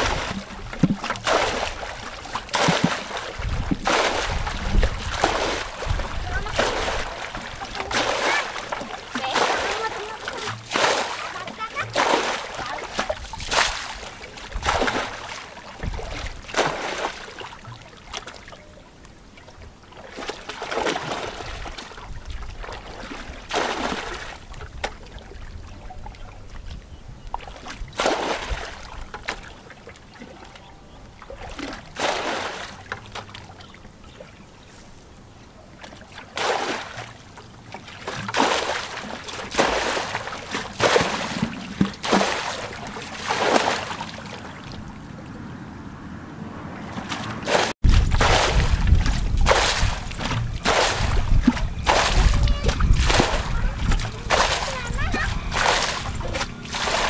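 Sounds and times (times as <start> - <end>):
muddy water splashing and sloshing: 0.0 - 57.0.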